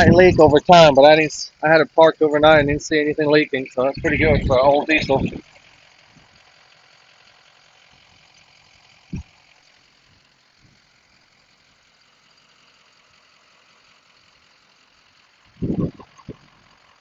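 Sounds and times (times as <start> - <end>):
muffled truck cab driving noise: 0.0 - 17.0.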